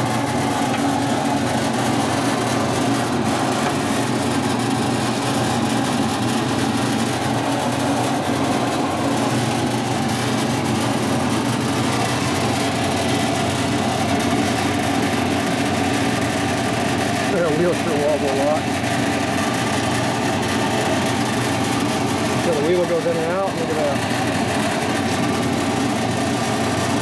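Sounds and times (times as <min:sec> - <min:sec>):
bandsaw running: 0:00.0 - 0:27.0.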